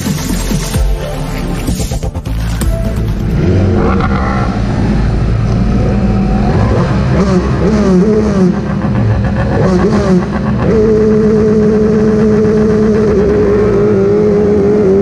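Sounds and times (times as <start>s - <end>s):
motorcycle engines revving: 2.3s - 15.0s.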